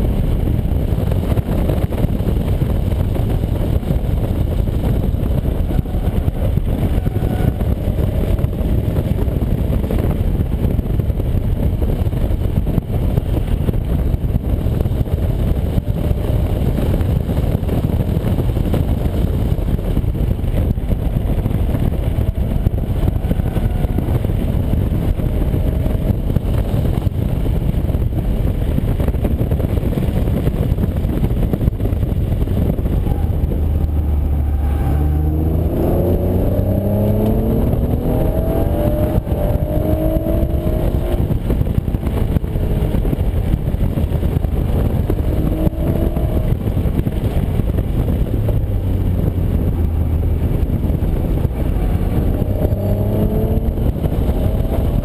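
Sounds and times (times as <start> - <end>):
car engine running hard: 0.0 - 55.0
road and tyre noise: 0.0 - 55.0.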